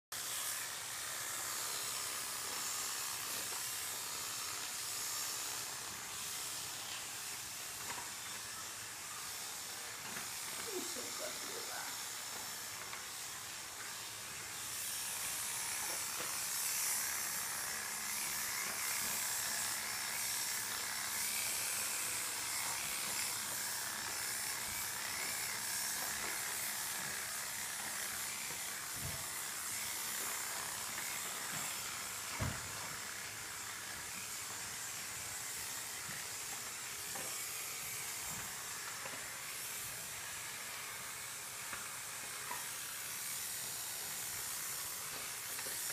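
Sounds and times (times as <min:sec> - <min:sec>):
electric clippers running: 0:00.1 - 0:45.9.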